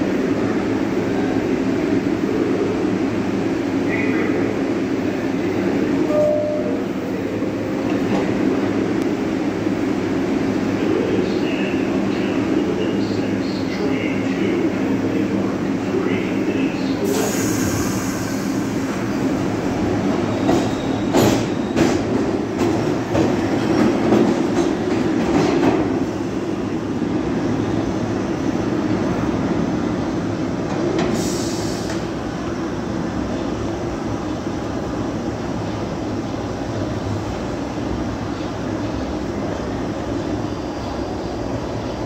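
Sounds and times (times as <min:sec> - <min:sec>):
subway train rumbling: 0:00.0 - 0:42.0.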